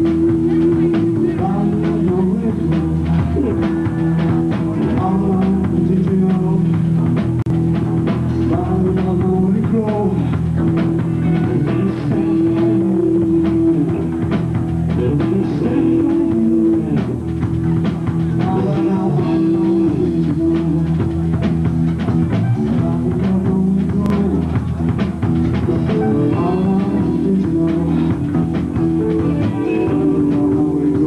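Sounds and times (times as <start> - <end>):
bass guitar: 0.0 - 31.0
drum kit beat: 0.0 - 31.0
electric guitar: 0.0 - 31.0.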